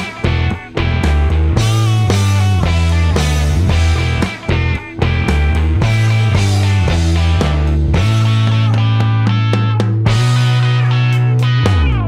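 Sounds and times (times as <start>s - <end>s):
instrumental music with strong bass: 0.0s - 12.0s.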